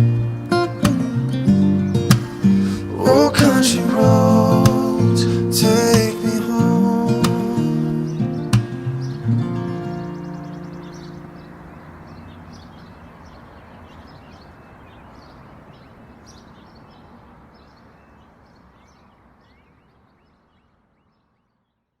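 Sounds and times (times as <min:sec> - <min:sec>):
birds chirping: 0:00.0 - 0:22.0
steady outdoor hiss: 0:00.0 - 0:22.0.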